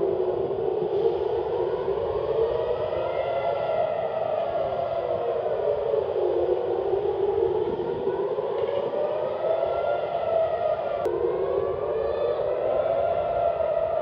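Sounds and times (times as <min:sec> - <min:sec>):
air raid siren wailing: 0:00.0 - 0:14.0.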